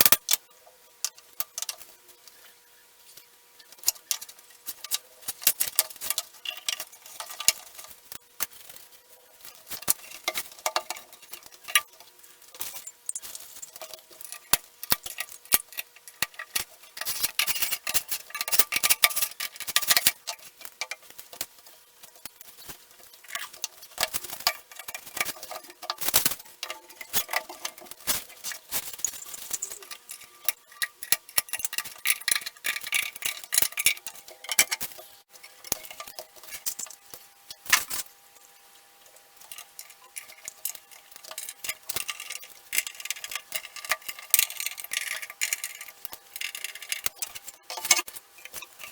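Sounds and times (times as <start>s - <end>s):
small hardware and tools clicking: 0.0s - 2.4s, 3.2s - 8.7s, 9.4s - 38.1s, 39.0s - 48.9s.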